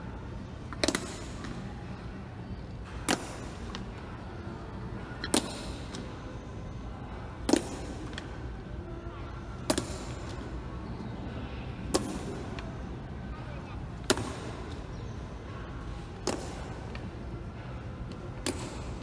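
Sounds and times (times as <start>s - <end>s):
low hum of hall: 0.0s - 19.0s.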